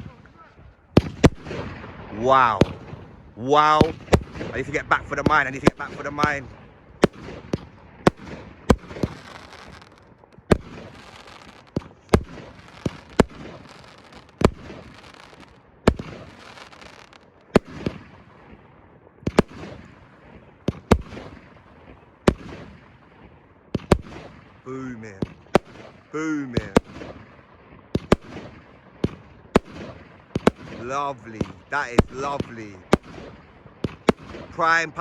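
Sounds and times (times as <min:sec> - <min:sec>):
firework bangs with hiss: 0:00.0 - 0:03.2, 0:03.8 - 0:18.6, 0:19.2 - 0:21.6, 0:22.2 - 0:34.6.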